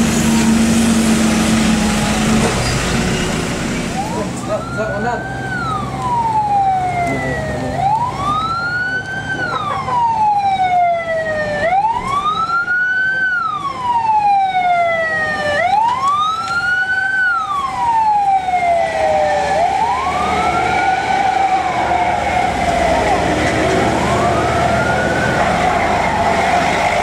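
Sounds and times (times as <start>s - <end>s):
police siren wailing: 0.0s - 2.7s, 3.7s - 27.0s.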